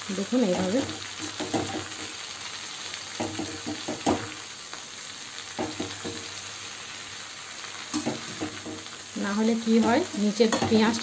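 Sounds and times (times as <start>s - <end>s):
greens sizzling in hot oil: 0.0s - 11.0s.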